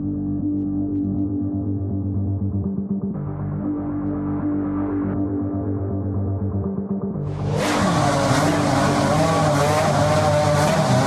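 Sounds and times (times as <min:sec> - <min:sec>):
ambient electronic music: 0:00.0 - 0:11.0.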